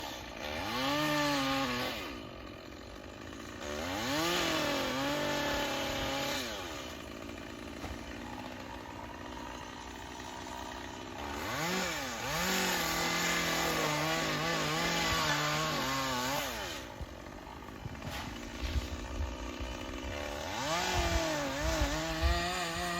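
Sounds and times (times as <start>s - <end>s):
chainsaw revving: 0.0s - 22.9s.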